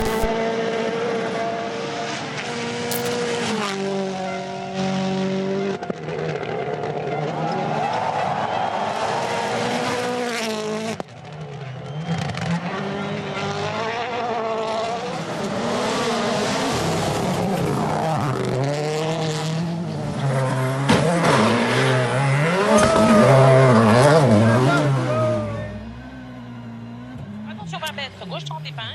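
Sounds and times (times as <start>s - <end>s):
rally car engine revving: 0.0s - 28.8s.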